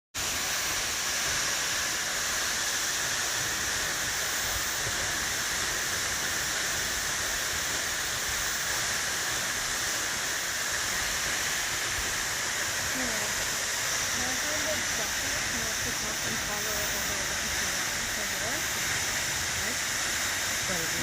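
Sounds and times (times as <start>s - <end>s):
waterfall rushing: 0.2s - 21.0s.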